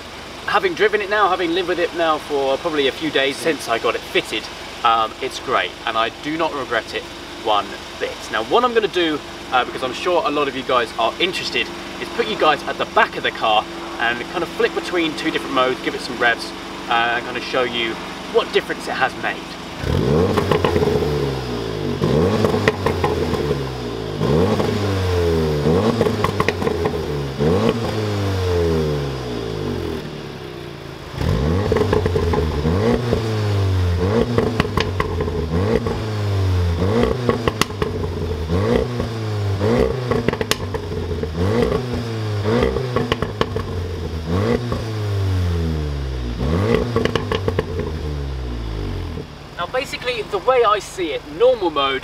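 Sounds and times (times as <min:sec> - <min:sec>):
car engine revving: 0:00.0 - 0:52.0
exhaust pops and crackles: 0:00.4 - 0:28.8, 0:31.0 - 0:52.0.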